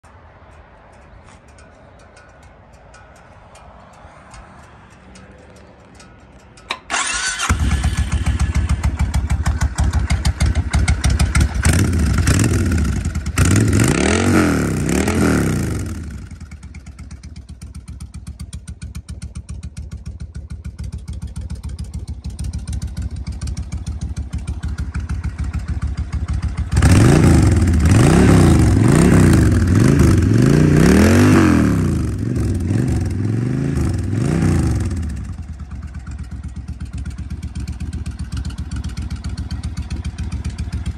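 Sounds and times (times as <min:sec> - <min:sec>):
motorcycle engine idling and revving: 0:00.0 - 0:40.9
motorcycle engine starting: 0:05.2 - 0:40.9.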